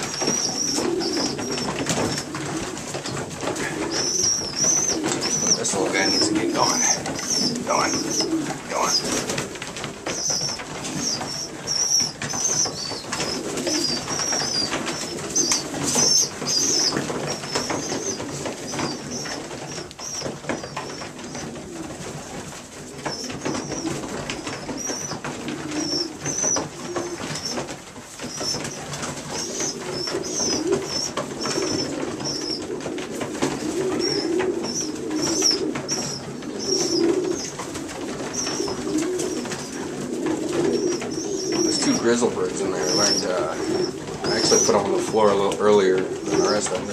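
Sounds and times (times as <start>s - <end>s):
pigeons cooing: 0.0s - 46.9s
young pigeons peeping: 0.0s - 46.9s.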